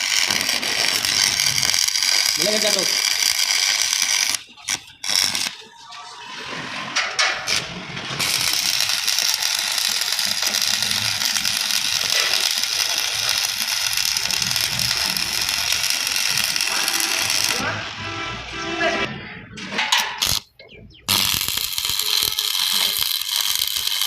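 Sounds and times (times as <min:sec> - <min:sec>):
welding arc crackling: 0:00.0 - 0:05.7, 0:07.2 - 0:18.6, 0:20.0 - 0:24.0.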